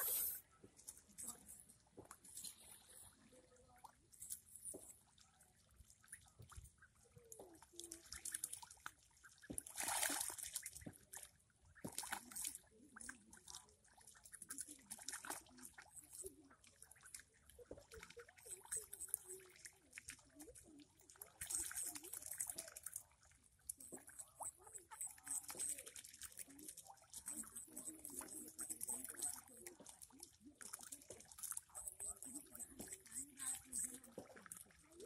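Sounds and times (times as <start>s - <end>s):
ducklings splashing in water: 0.8s - 35.0s.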